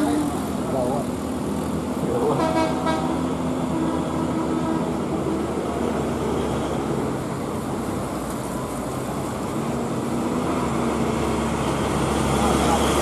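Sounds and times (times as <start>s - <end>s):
traffic noise: 0.0s - 13.0s
truck diesel engine pulling uphill: 0.0s - 13.0s.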